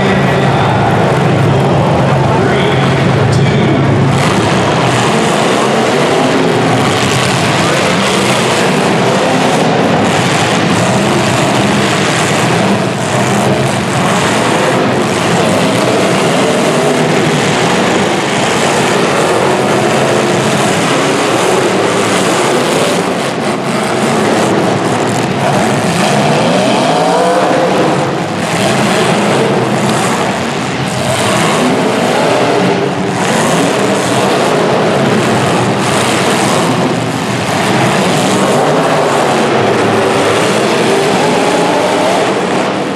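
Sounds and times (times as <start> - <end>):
car engines revving: 0.0 - 42.9.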